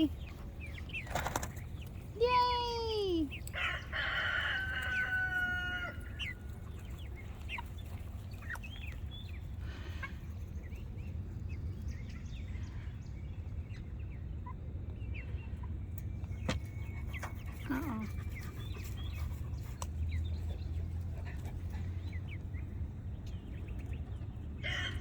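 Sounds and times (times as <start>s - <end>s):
chickens clucking: 0.1s - 2.1s, 3.2s - 12.8s, 13.7s - 25.0s.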